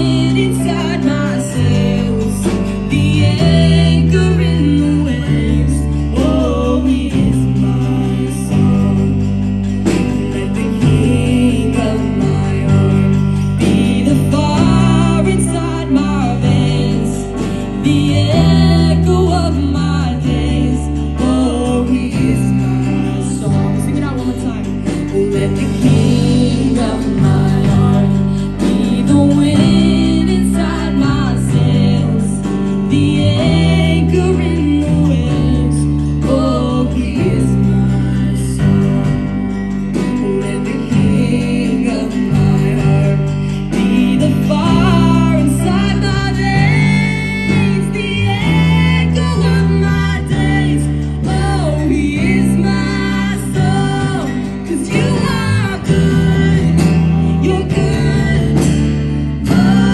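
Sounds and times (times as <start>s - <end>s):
acoustic guitar: 0.0s - 59.9s
bass guitar: 0.0s - 59.9s
electric guitars: 0.0s - 59.9s
female singers: 0.0s - 59.9s
keyboard: 0.0s - 59.9s.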